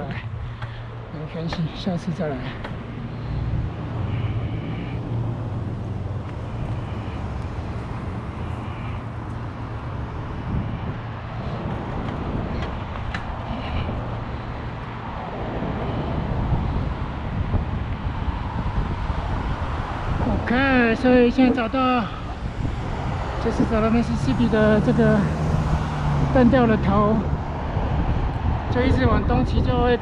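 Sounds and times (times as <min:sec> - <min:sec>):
passing road traffic: 0:00.0 - 0:30.0
wind rumble on microphone: 0:00.0 - 0:30.0.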